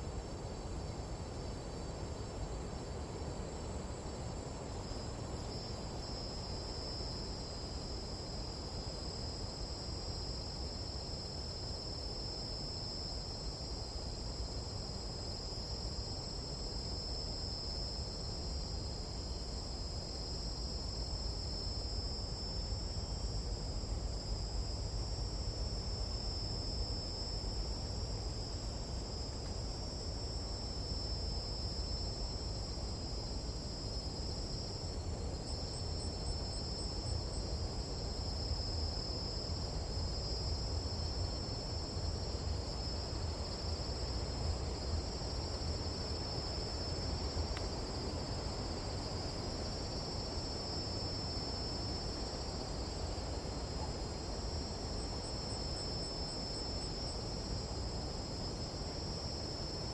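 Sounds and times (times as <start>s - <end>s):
insect chorus trilling: 0.0s - 59.9s
low background noise: 0.0s - 59.9s.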